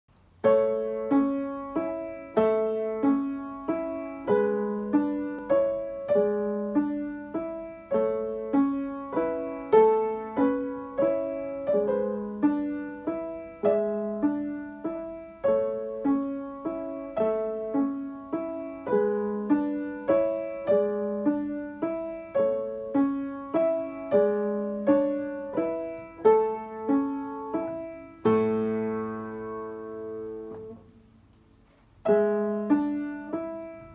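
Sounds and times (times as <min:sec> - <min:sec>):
upright piano playing: 0:00.2 - 0:33.9.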